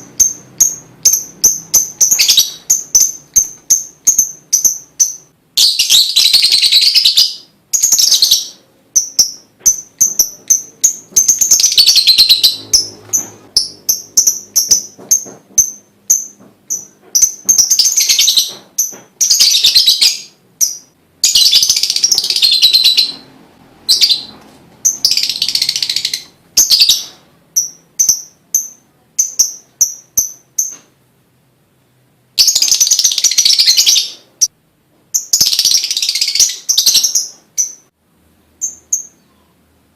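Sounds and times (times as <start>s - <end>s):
lovebird chirping and trilling: 0.0s - 30.8s, 32.4s - 34.5s, 35.1s - 37.9s, 38.6s - 39.5s.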